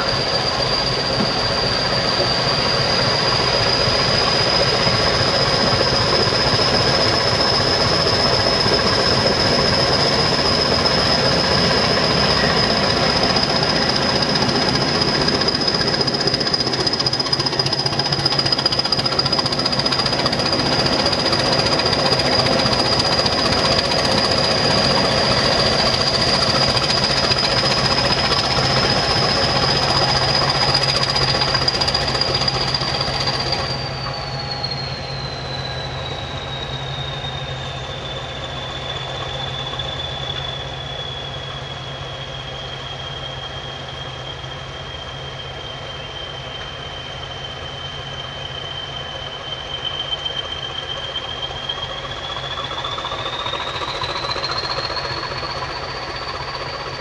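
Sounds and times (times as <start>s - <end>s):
diesel train passing: 0.0s - 57.0s
high steady whistle: 0.0s - 57.0s.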